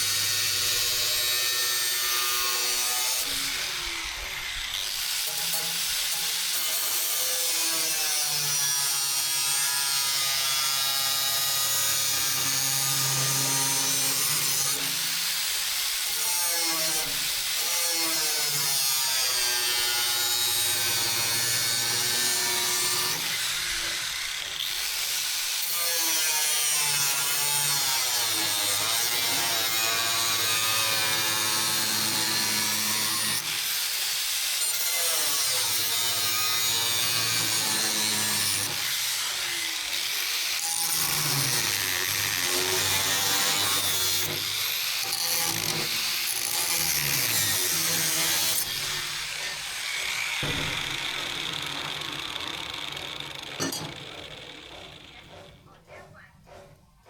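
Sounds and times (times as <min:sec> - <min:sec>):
tool grinding steel blade: 0:00.0 - 0:56.6.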